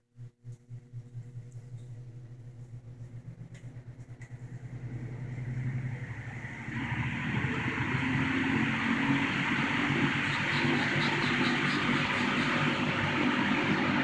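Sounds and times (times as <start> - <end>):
box fan motor and air whoosh: 0.6 - 14.0.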